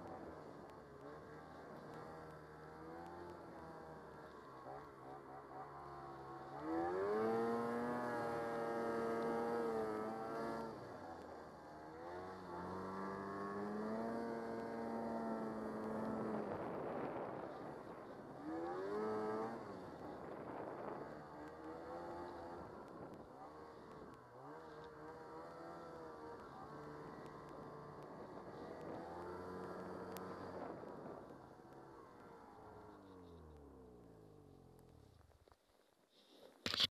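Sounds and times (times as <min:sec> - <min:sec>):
snowmobile engine revving: 0:00.0 - 0:34.6.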